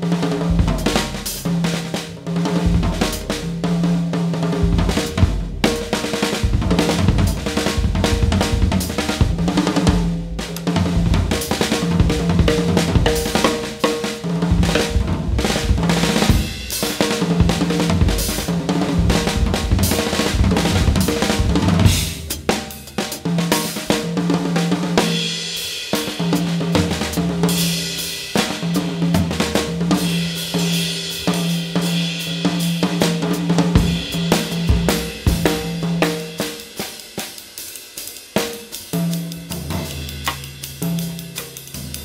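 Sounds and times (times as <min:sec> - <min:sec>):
drum kit played fast: 0:00.0 - 0:42.0.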